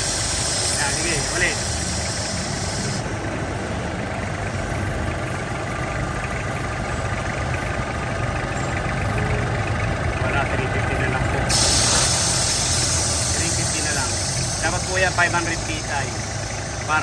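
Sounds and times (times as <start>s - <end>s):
engine idling with compressor: 0.0s - 17.0s.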